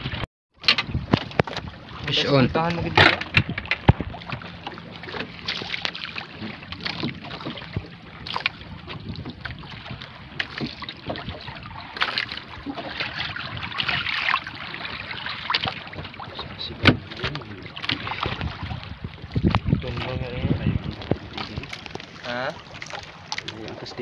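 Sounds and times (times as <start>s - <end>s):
wind on microphone: 0.0s - 22.3s
water lapping around boat: 0.0s - 24.0s.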